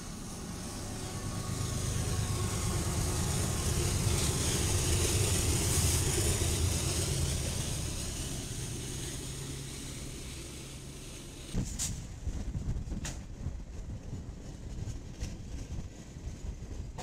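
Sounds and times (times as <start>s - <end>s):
diesel locomotive engine rumble: 0.0s - 17.0s
train wheels on rails: 0.0s - 17.0s.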